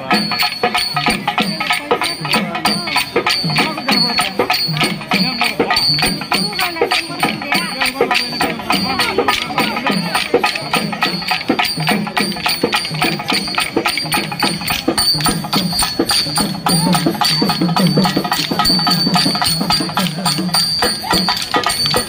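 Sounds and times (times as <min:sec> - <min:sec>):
ringing bell-like tone: 0:00.0 - 0:22.0
wooden sticks clacking: 0:00.0 - 0:22.0.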